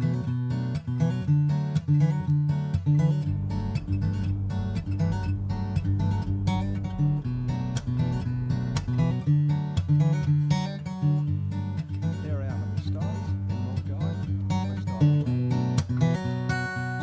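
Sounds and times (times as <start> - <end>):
acoustic guitar instrumental: 0.0 - 17.0.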